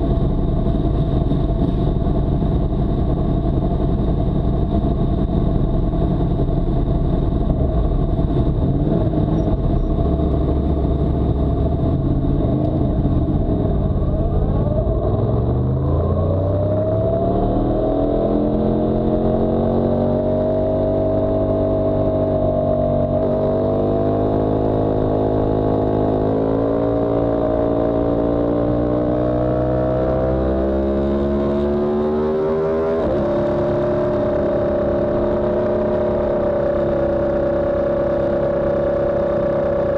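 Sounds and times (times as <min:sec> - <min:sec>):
motorcycle engine revving: 0:07.7 - 0:39.9.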